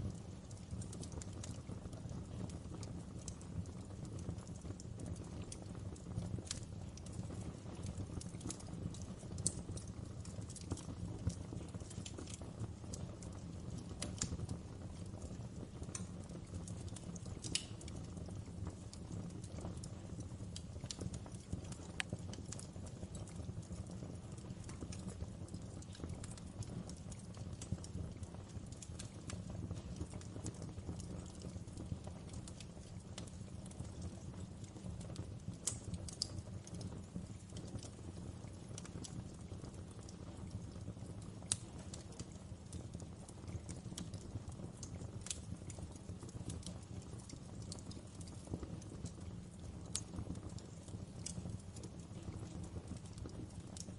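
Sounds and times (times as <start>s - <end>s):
low rumble of fire: 0.0s - 53.9s
wood fire crackling: 0.0s - 53.9s.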